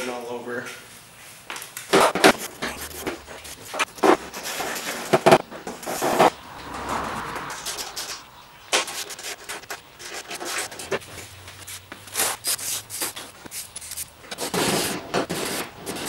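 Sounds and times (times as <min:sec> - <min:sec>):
rubbing and scraping on panels: 0:01.8 - 0:16.0.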